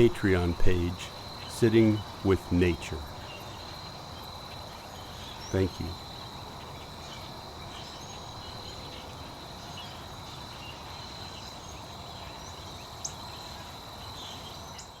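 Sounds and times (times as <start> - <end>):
faint bird chirps: 0.0 - 15.0
high insect trill: 0.0 - 15.0.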